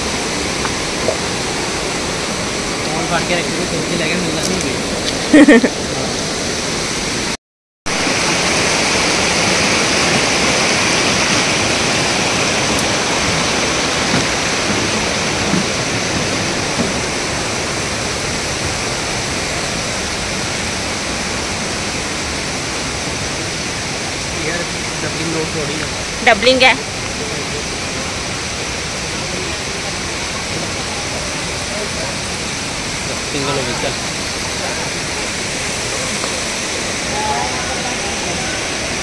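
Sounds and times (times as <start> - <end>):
stream water rushing over rocks: 0.0 - 39.0.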